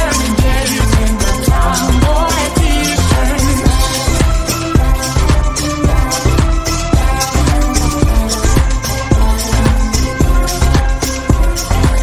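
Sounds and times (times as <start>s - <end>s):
pop music with drum beat: 0.0s - 12.0s.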